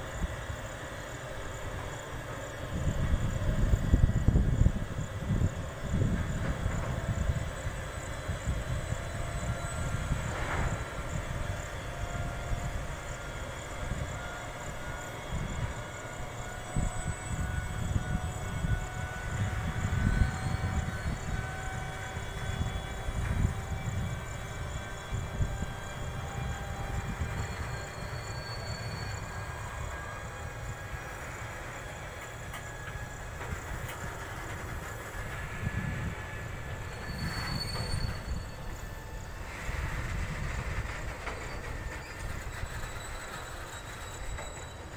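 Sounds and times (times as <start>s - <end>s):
faint steady whining tones: 0.0s - 44.9s
locomotive rumble: 0.0s - 44.9s.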